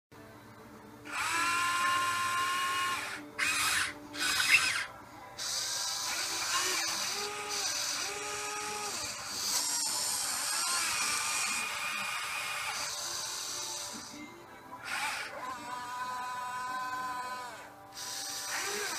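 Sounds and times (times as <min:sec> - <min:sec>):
electric motors whining: 0:01.0 - 0:18.9.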